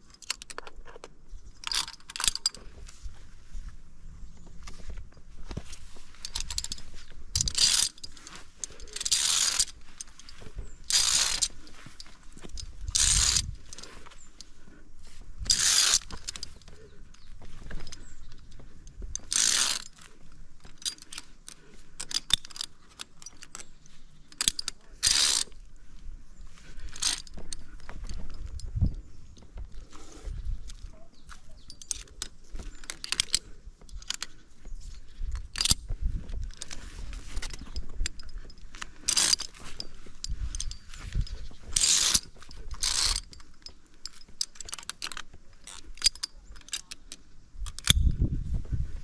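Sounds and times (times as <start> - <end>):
quick metallic clicks: 0.0 - 2.6, 5.7 - 14.5, 15.4 - 20.0, 20.6 - 25.6, 26.9 - 29.0, 30.6 - 34.4, 35.0 - 36.8, 37.4 - 48.1
carabiners scraping on steel cable: 0.0 - 3.1, 5.5 - 25.8, 26.5 - 48.2.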